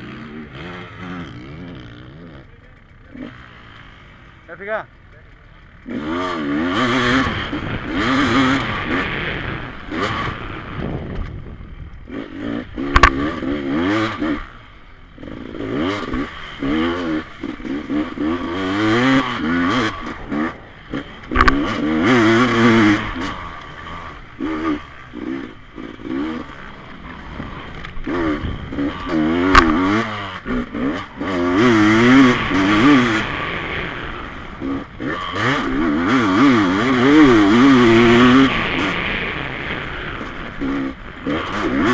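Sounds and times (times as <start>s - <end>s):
off-road motorcycle engines revving: 0.0s - 41.9s.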